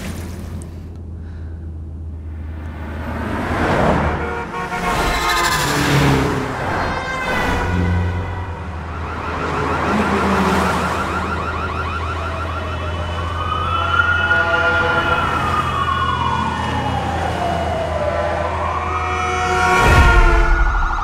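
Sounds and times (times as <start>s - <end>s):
emergency vehicle siren: 4.1s - 21.0s.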